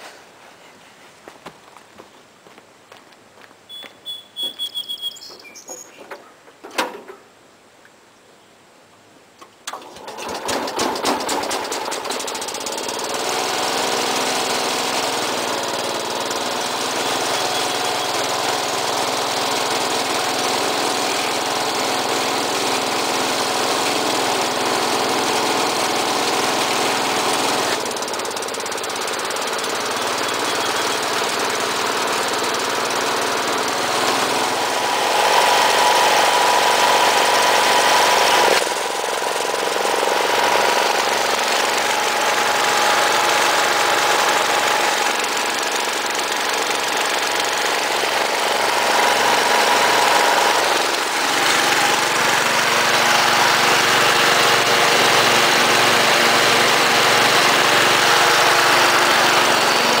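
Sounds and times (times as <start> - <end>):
garden tractor engine chugging: 9.7 - 60.0.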